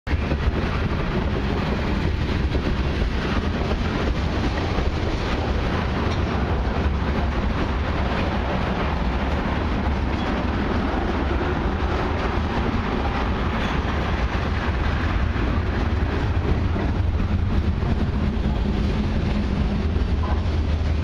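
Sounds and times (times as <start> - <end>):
freight train wheels rumbling: 0.1 - 21.0.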